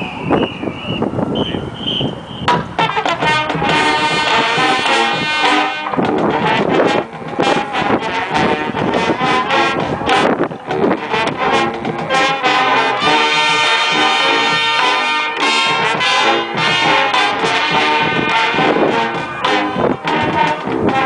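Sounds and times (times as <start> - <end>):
marching band brass: 0.0 - 21.0.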